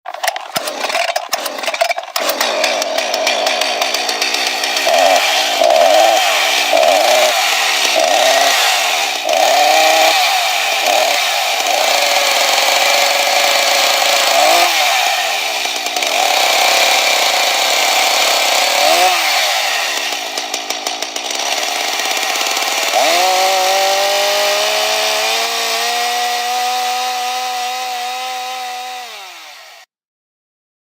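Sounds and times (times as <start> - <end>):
chainsaw engine revving: 0.1 - 29.9.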